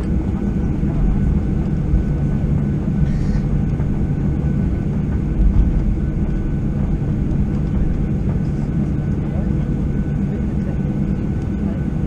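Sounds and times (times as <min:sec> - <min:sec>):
airplane cabin rumble and hum: 0:00.0 - 0:12.0.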